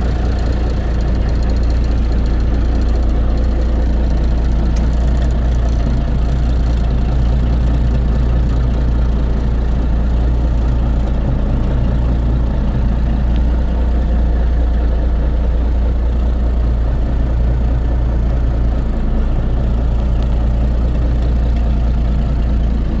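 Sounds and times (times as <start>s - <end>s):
truck engine running steadily: 0.0s - 23.0s.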